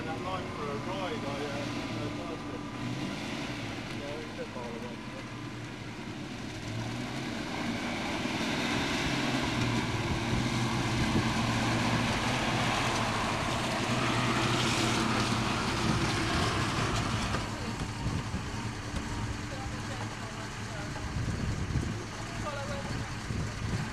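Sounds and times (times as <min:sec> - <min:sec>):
truck engine driving past: 0:00.0 - 0:23.9.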